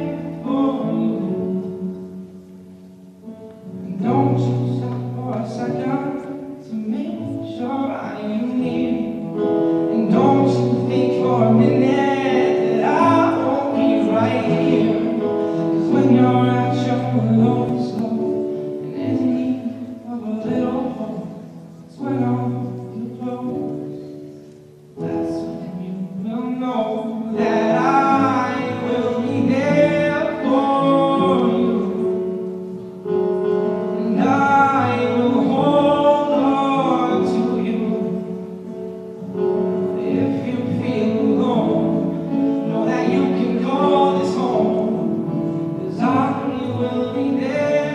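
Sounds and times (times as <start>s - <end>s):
man singing: 0.0s - 2.2s, 3.2s - 24.2s, 25.0s - 47.9s.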